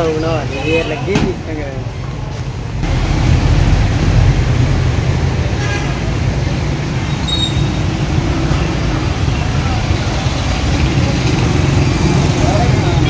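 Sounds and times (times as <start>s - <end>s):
street traffic noise: 0.0s - 13.0s
vehicle engine rumble: 1.3s - 13.0s.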